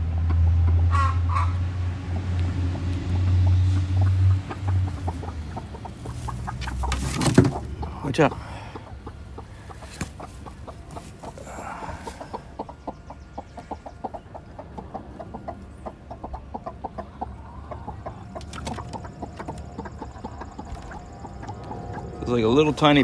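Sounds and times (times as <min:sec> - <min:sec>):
hen clucking: 0:00.6 - 0:02.3, 0:03.0 - 0:23.0.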